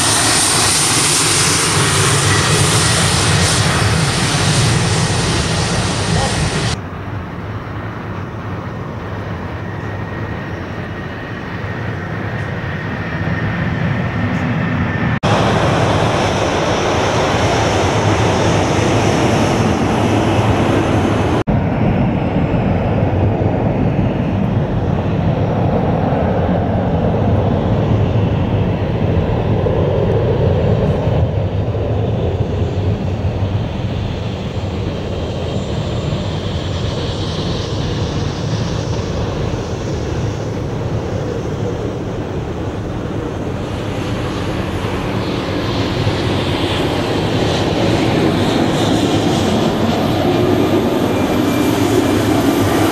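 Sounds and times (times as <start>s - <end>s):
jet engines roaring: 0.0s - 52.9s.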